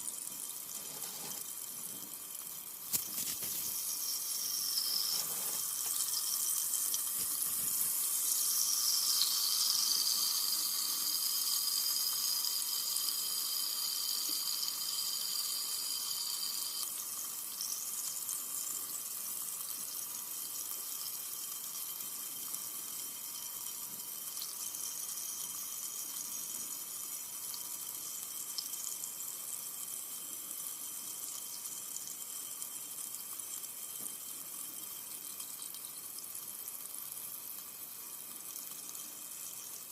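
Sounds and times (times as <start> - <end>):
soda fizzing: 0.0 - 39.9.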